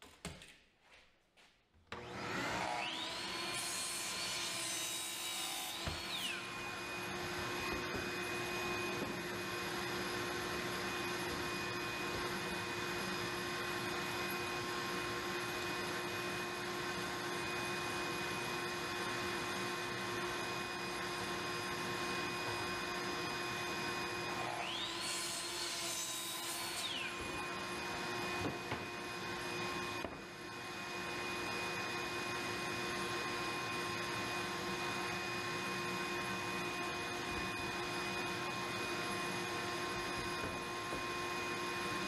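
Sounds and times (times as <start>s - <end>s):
power saw cutting wood: 1.9s - 42.0s.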